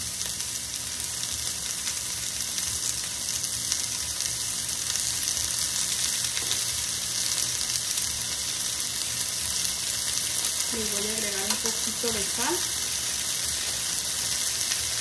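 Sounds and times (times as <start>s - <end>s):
cactus paddles sizzling in oil: 0.0s - 15.0s.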